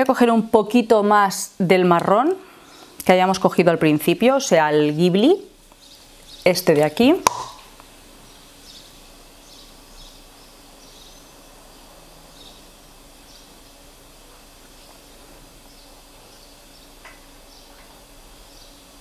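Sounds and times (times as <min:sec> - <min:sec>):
room hiss: 0:00.0 - 0:19.0.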